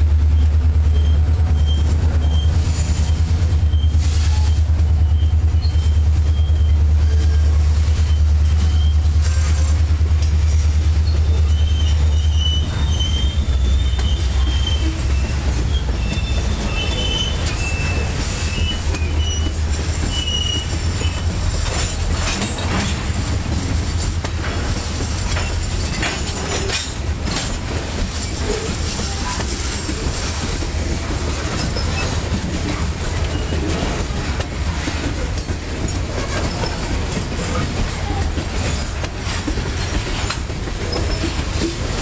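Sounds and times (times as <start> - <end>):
train wheels rumbling on rails: 0.0 - 42.0
wheels clicking over rail joints: 1.5 - 42.0.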